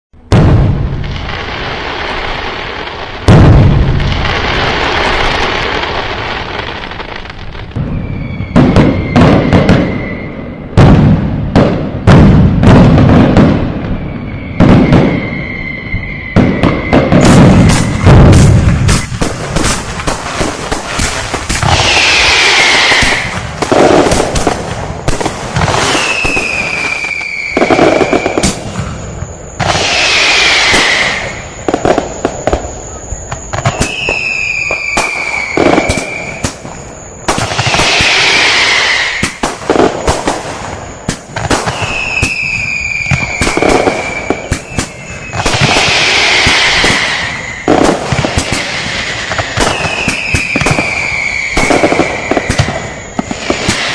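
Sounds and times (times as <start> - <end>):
firecrackers popping: 0.2 - 53.9
whistling fireworks: 0.2 - 53.9.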